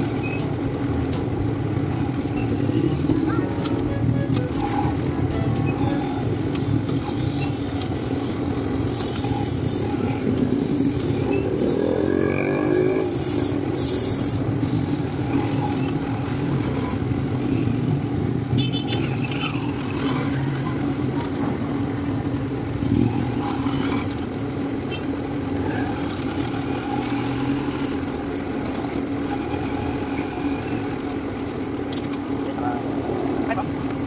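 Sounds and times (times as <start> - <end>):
motorcycle engine running: 0.0 - 34.0
road noise: 0.0 - 34.0.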